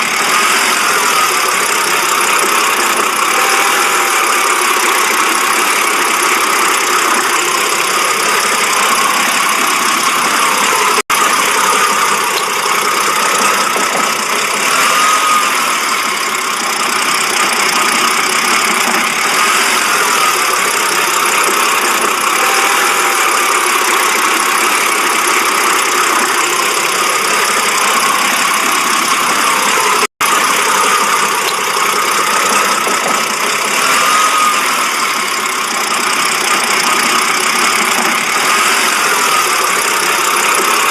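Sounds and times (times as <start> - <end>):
car engine idling roughly: 0.0 - 40.9.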